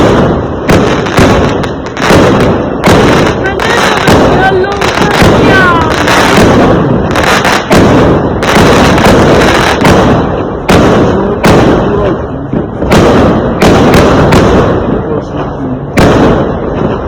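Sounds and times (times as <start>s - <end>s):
fireworks banging: 0.0s - 17.0s
fireworks crackling and rumbling: 0.0s - 17.0s.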